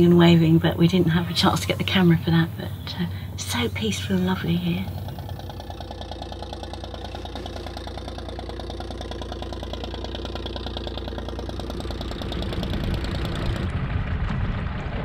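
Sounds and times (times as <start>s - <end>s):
boat engine puttering: 0.0s - 13.9s.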